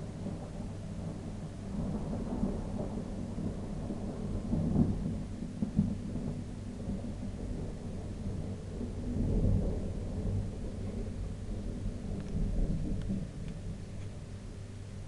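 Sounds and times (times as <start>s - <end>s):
rolling thunder: 0.0s - 14.3s.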